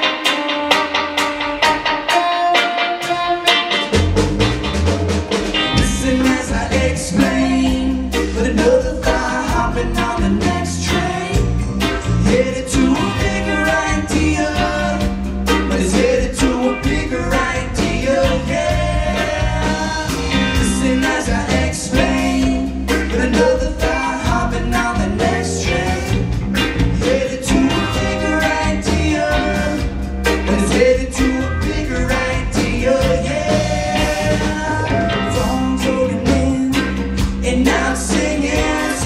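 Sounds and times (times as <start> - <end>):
drum kit: 0.0 - 39.0
electric guitars: 0.0 - 39.0
man singing: 5.8 - 39.0.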